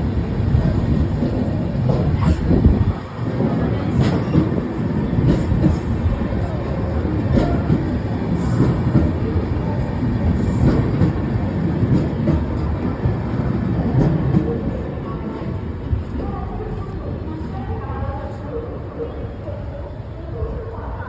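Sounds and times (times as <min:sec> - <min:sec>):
train clanks: 0:00.0 - 0:17.4
train wheels rumbling on rail: 0:00.0 - 0:21.0.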